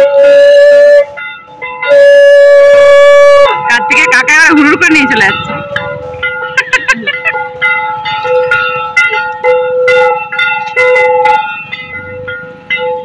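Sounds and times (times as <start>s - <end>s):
metal bell struck repeatedly: 1.2s - 2.1s, 3.5s - 13.0s.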